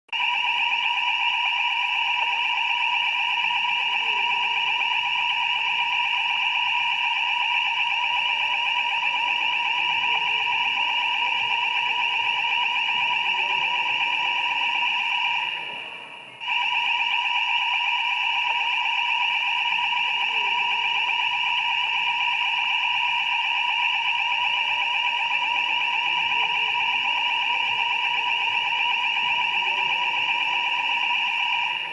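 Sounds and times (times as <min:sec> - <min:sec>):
fire alarm electronic tone: 0:00.1 - 0:31.9.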